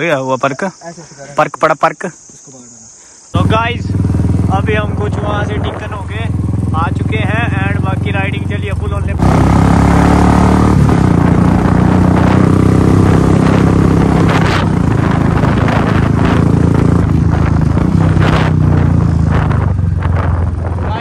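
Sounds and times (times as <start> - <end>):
motorcycle engine running: 3.4 - 21.0
rushing wind noise: 3.4 - 21.0.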